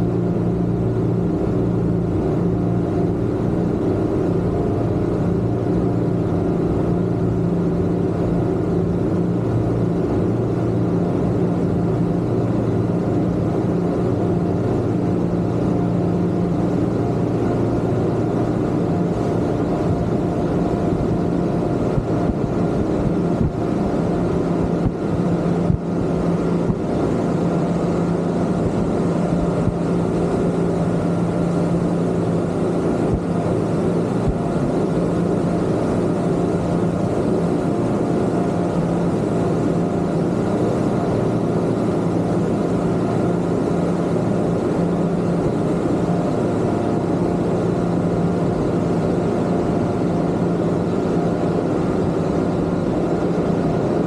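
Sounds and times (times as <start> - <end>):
outboard motors droning: 0.0 - 54.0.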